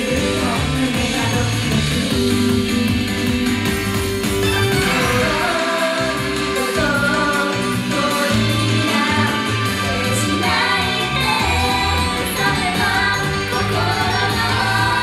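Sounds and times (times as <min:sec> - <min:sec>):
backing music with bass and beat: 0:00.0 - 0:15.0
women singing pop song: 0:00.0 - 0:15.0.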